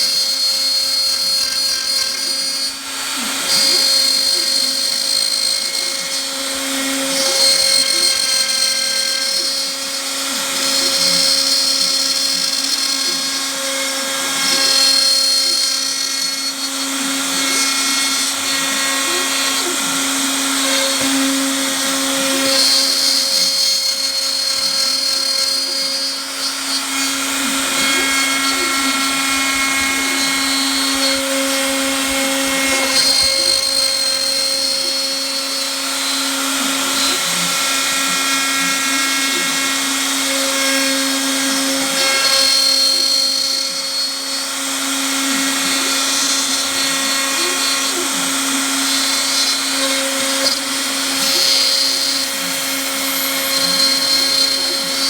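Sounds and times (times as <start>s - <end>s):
cnc router motors humming: 0.0s - 55.0s
high machine whine: 0.0s - 55.0s.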